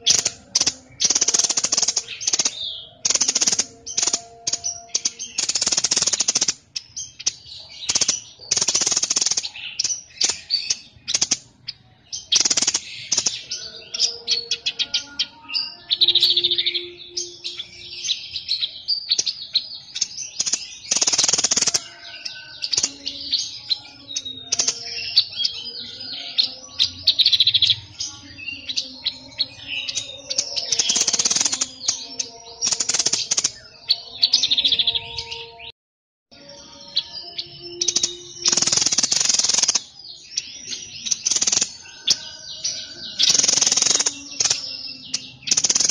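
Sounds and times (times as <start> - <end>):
songbird chirping and trilling: 0.0 - 45.9.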